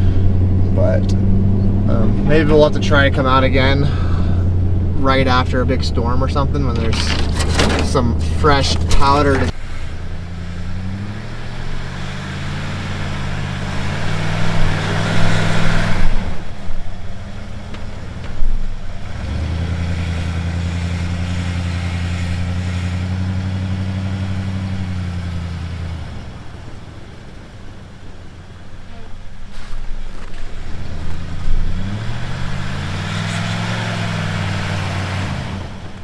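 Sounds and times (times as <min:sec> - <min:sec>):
pickup truck engine: 0:00.0 - 0:36.0.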